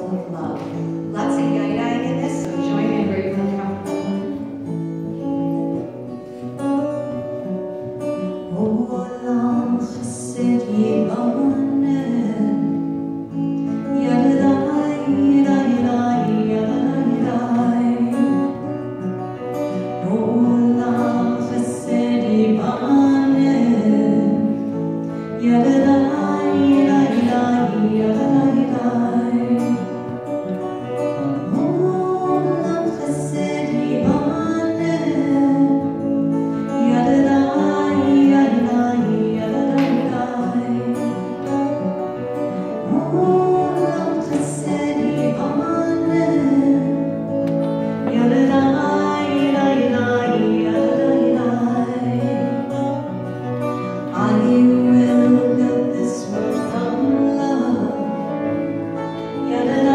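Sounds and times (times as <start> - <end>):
acoustic guitar: 0.0 - 59.9
woman singing into a microphone: 0.0 - 59.9.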